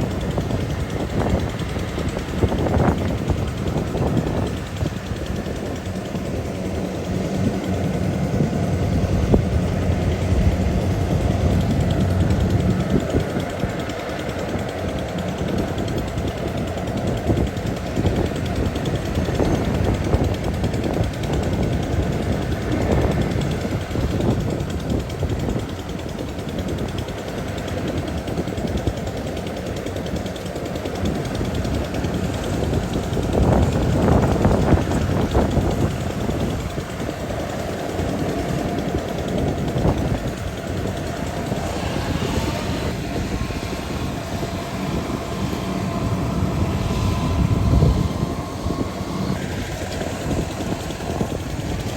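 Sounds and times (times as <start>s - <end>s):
combine harvester engine humming: 0.0s - 51.9s.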